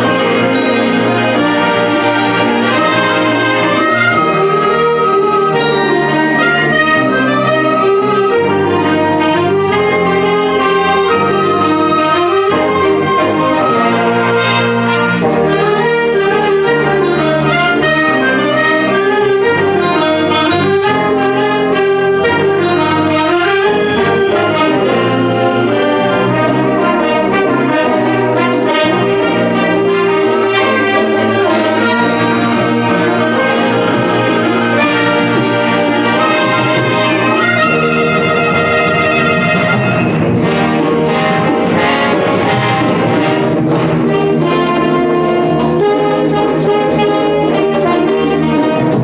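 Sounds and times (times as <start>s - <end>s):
concert wind band playing: 0.0s - 49.0s.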